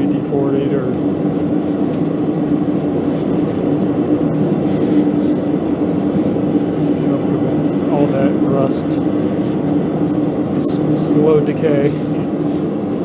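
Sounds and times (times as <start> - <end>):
constant low hum: 0.0 - 13.0
forge rushing noise: 0.0 - 13.0.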